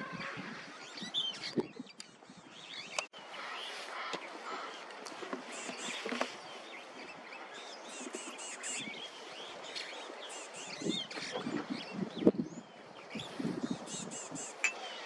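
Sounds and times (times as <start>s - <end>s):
birds chirping: 0.0s - 15.0s
hissy natural background: 0.0s - 15.0s.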